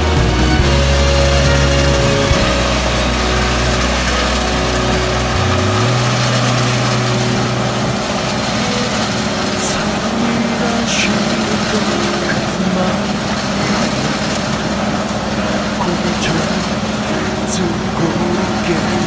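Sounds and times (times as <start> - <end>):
tractor engine under load: 0.0 - 19.0.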